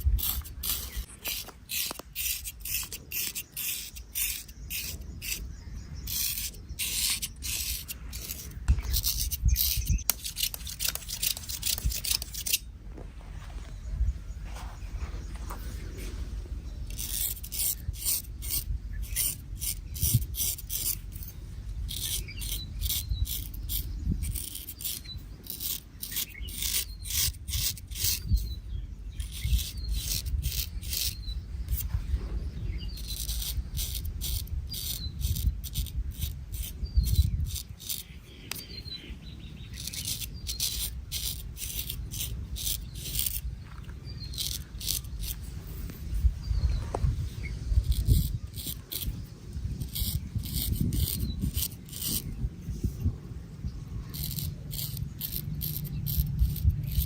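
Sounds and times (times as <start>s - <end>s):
razor scraping stubble: 0.0s - 12.7s, 14.5s - 57.0s.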